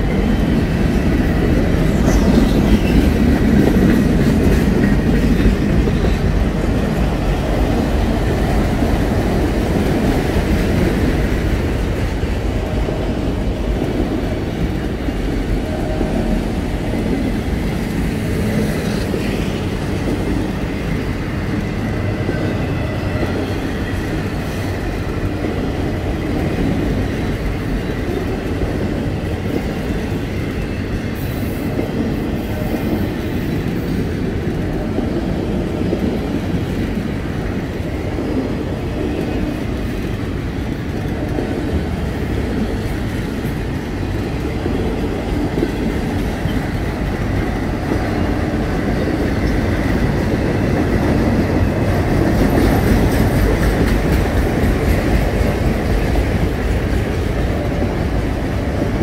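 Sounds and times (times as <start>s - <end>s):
freight train wheels clickety-clack: 0.0s - 59.0s.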